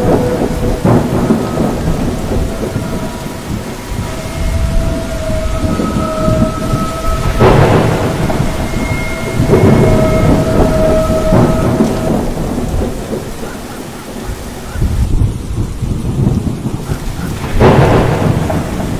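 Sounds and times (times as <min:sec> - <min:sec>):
rain: 0:00.0 - 0:18.9
rumbling thunder: 0:00.0 - 0:18.9
wind rushing: 0:00.0 - 0:18.9.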